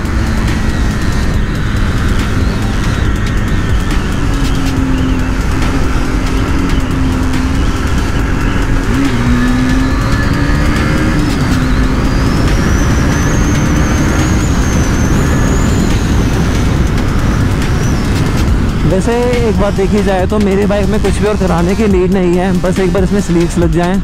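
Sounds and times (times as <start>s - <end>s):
motorcycle engine running: 0.0s - 24.0s
wind rushing on microphone: 0.0s - 24.0s.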